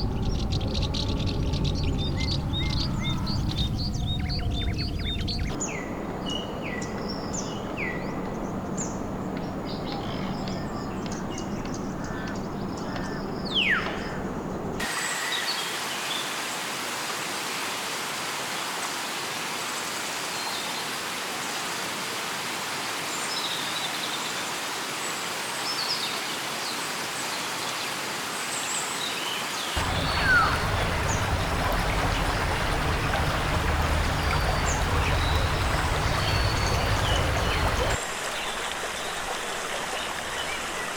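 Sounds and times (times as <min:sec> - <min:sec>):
hiss-like rainforest background: 0:00.0 - 0:14.2, 0:14.8 - 0:40.9.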